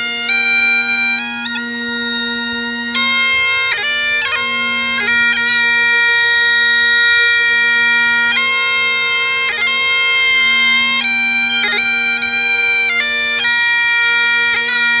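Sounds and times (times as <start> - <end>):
bagpipe playing a tune: 0.0 - 15.0.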